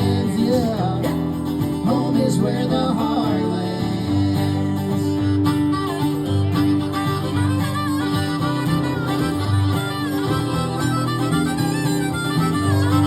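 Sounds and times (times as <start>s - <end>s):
harmonica melody: 0.0s - 13.0s
strummed guitar chords: 0.0s - 13.0s.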